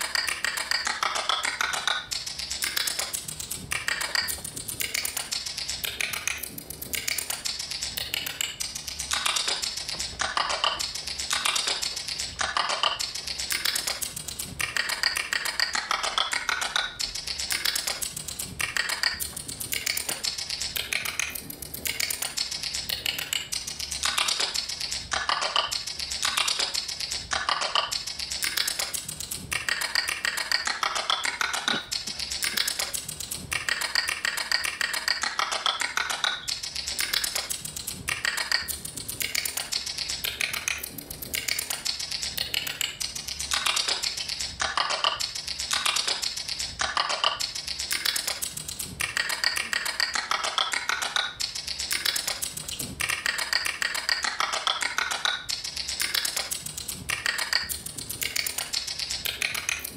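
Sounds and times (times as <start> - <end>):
rapid clicking music: 0.0 - 59.9.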